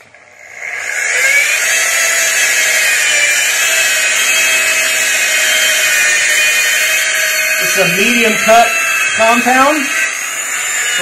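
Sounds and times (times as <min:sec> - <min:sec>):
electric rotary buffer motor whine: 0:00.0 - 0:11.0.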